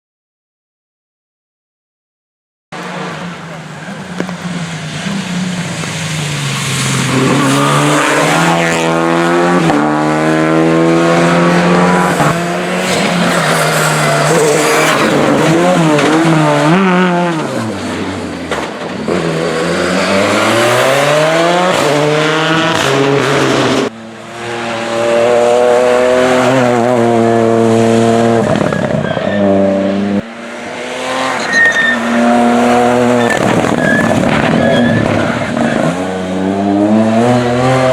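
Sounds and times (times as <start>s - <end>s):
rally cars racing past: 2.8s - 37.9s.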